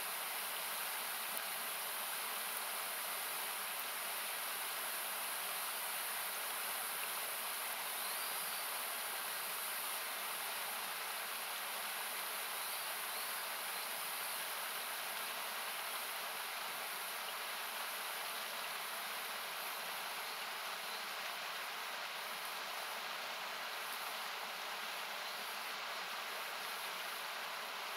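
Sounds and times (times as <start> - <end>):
mountain river rushing: 0.0 - 27.9.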